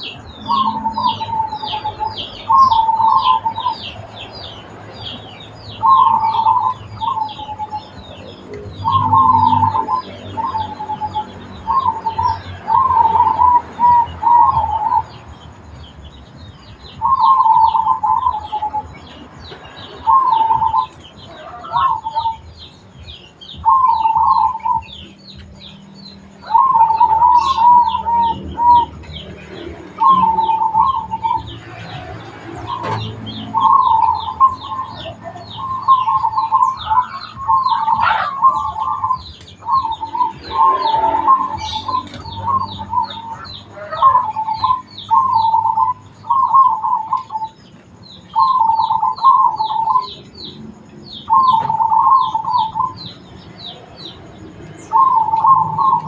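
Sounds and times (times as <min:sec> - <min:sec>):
dove cooing: 0:00.0 - 0:04.0, 0:05.8 - 0:15.1, 0:17.0 - 0:18.9, 0:20.0 - 0:22.5, 0:23.6 - 0:25.0, 0:26.4 - 0:47.6, 0:48.4 - 0:50.2, 0:51.2 - 0:53.1, 0:54.9 - 0:56.0
small birds chirping: 0:00.0 - 0:56.0.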